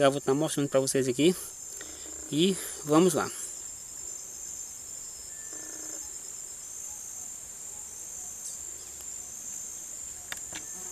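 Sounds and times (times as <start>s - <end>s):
faint pulsing insect call: 0.0s - 10.9s
insects trilling: 0.0s - 10.9s.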